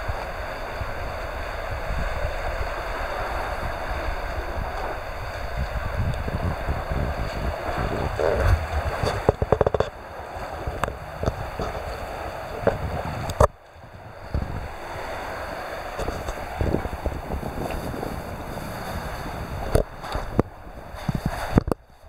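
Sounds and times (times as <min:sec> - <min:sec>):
choppy sea water: 0:00.0 - 0:22.0
wind buffeting microphone: 0:00.0 - 0:22.0.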